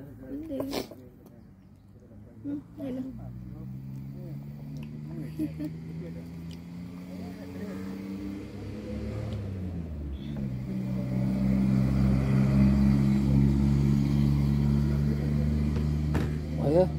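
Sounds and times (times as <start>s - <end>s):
vehicle engine running: 2.0s - 16.9s.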